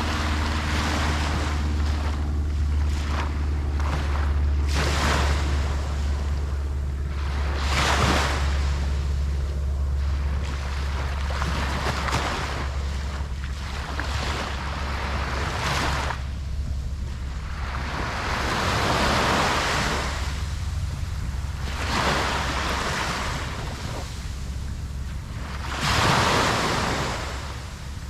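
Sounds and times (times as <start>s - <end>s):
ocean waves breaking on beach: 0.0s - 28.0s
steady low rumble: 0.0s - 28.0s.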